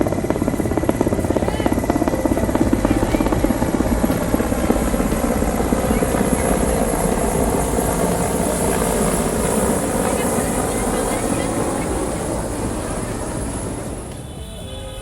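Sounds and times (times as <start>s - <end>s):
helicopter rotor blades chopping: 0.0s - 14.5s.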